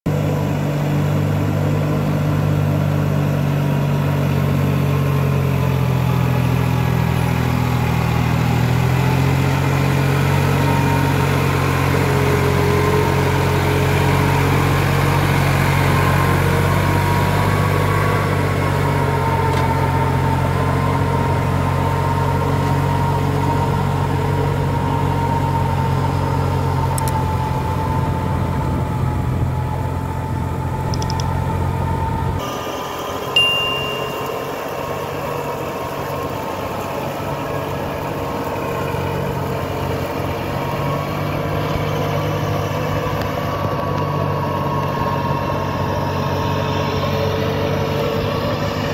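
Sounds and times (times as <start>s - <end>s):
tractor engine running: 0.1s - 48.9s.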